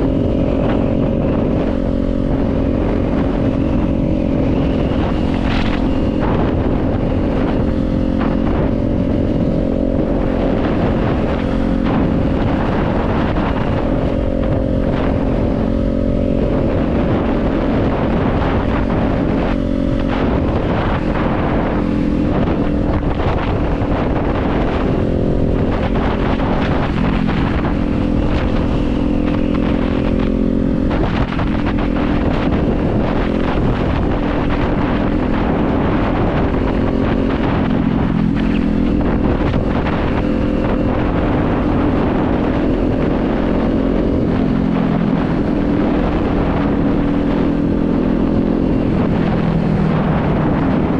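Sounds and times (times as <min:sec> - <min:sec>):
motorcycle engine cruising: 0:00.0 - 0:50.9
wind rushing over microphone: 0:00.0 - 0:50.9.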